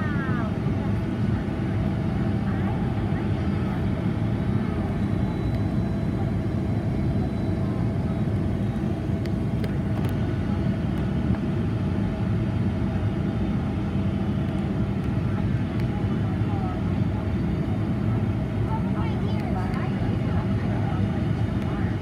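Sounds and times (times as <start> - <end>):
aircraft engine and airflow roar: 0.0 - 22.0.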